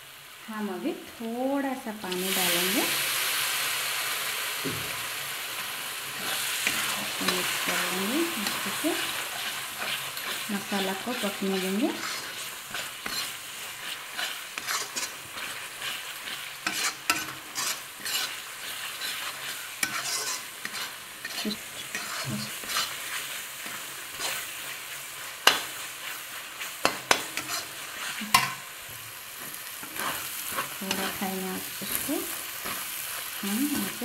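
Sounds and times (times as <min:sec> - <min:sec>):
paste sizzling in oil: 0:00.1 - 0:34.0
spatula stirring and scraping: 0:06.1 - 0:34.0.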